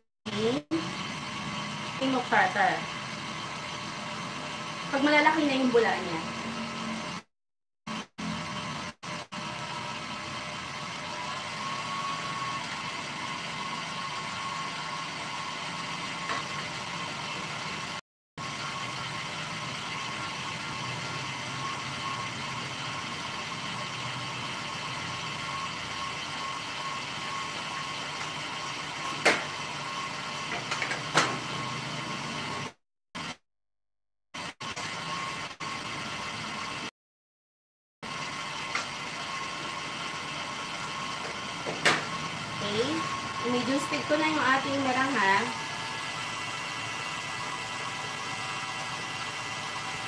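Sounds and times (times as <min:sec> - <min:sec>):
stand mixer motor whining: 0:00.3 - 0:07.3, 0:07.9 - 0:33.3, 0:34.4 - 0:36.9, 0:38.0 - 0:50.0.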